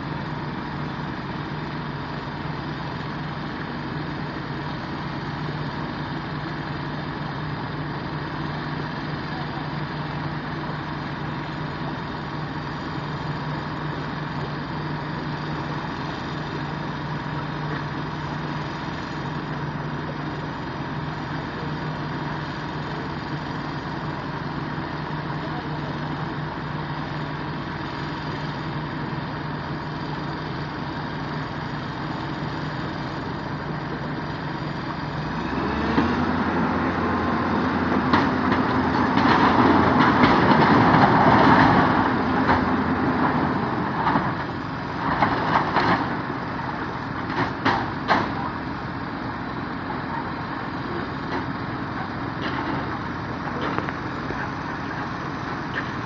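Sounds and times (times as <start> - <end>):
diesel truck engine idling and revving: 0.0 - 56.0.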